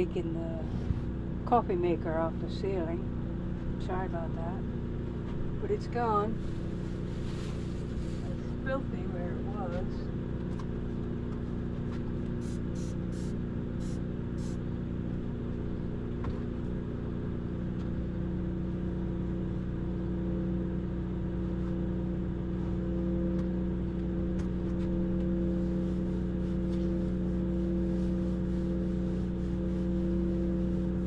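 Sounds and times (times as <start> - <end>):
motor hum: 0.0 - 31.0.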